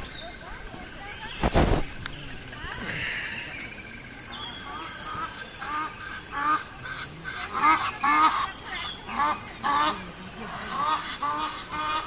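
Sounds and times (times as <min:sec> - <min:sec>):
honking bird calls: 0:00.0 - 0:12.0.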